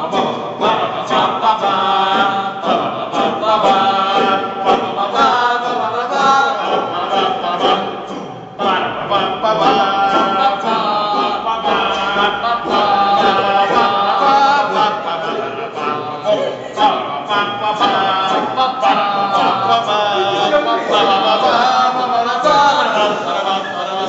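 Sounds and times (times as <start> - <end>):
men singing unaccompanied: 0.0 - 24.0.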